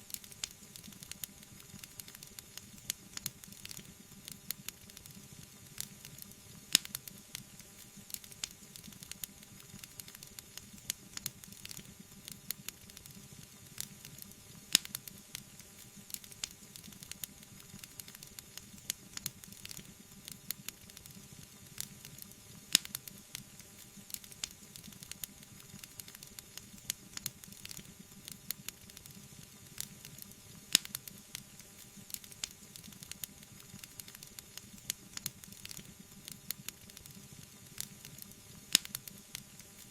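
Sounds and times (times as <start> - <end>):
faint fire hiss: 0.0 - 39.9
wood fire crackling: 0.1 - 39.9.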